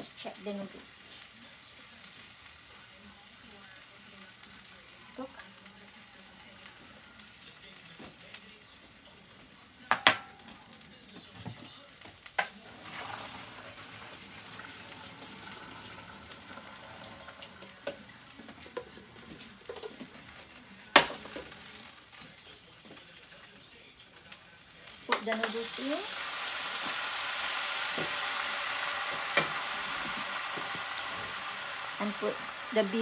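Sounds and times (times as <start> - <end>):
vegetables sizzling in a frying pan: 0.0 - 33.0.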